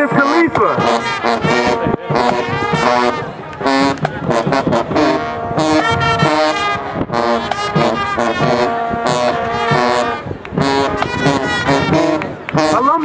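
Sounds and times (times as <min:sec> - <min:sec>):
marching band brass playing: 0:00.0 - 0:13.0.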